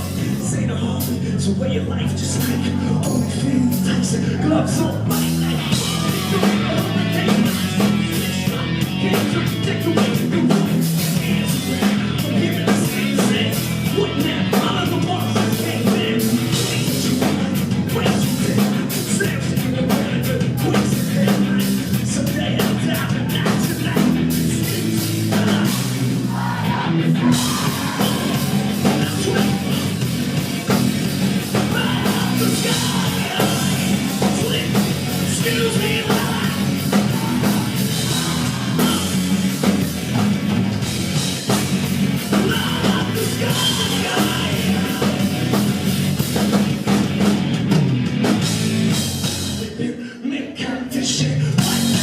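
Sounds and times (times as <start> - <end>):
rock band playing live: 0.0 - 49.9, 51.1 - 52.0.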